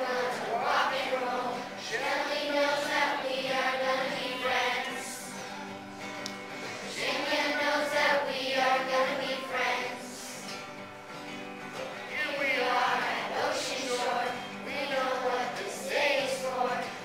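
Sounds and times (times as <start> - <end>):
children's choir singing: 0.0 - 10.8, 11.9 - 17.0
strummed acoustic guitars: 0.0 - 17.0.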